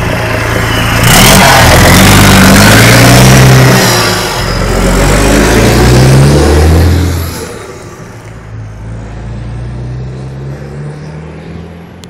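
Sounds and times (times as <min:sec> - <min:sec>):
truck passing and accelerating: 0:00.0 - 0:12.0.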